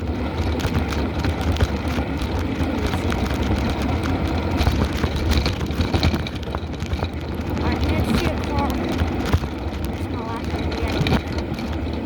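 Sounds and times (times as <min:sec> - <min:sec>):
small clicks and rattles: 0:00.0 - 0:12.0
wind rushing over microphone: 0:00.0 - 0:12.0.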